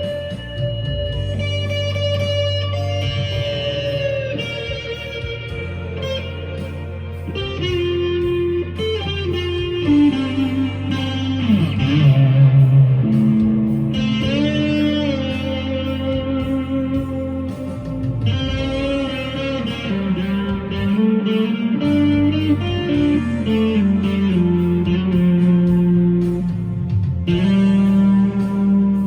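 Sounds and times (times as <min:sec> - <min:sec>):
electric guitar lead with bends: 0:00.0 - 0:29.0.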